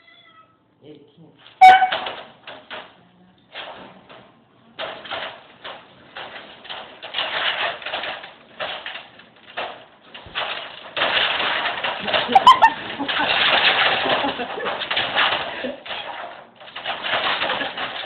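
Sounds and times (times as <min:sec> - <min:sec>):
wire dog crate rattling: 0:01.6 - 0:18.0.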